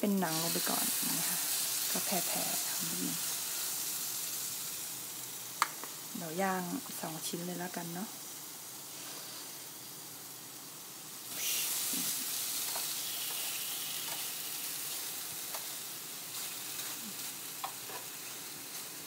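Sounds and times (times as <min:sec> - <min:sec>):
chicken sizzling on a grill: 0:00.0 - 0:19.0.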